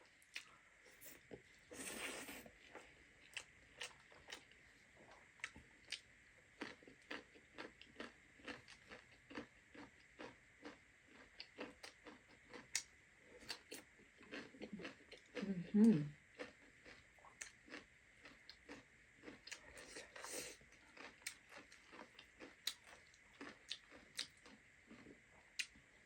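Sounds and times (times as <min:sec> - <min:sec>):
person chewing food: 0:00.3 - 0:25.8.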